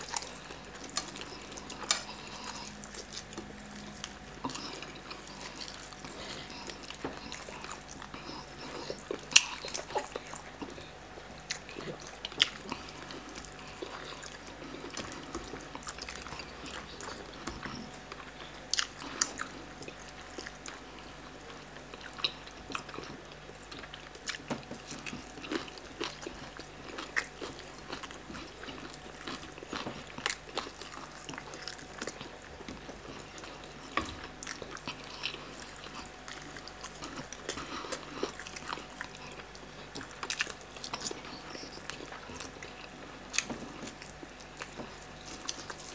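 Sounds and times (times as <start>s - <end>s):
people chewing and biting: 0.0s - 45.9s.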